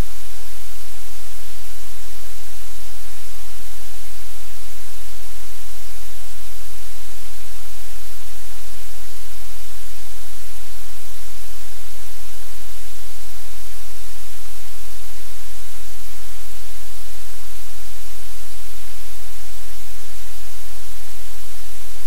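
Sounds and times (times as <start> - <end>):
static hiss: 0.0 - 22.0.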